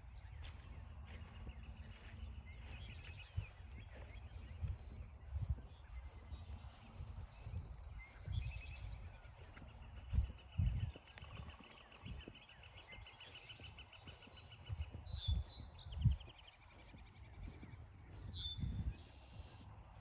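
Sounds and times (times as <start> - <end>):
footsteps on forest trail: 0.0 - 20.0.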